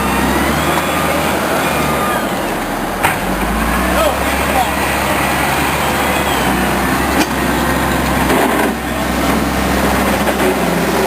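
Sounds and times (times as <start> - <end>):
diesel engines running: 0.0 - 11.0.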